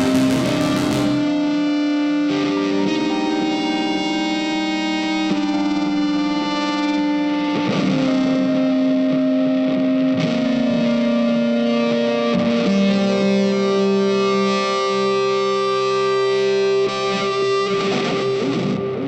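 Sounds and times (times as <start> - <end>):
slow music of long-held notes: 0.0 - 19.0.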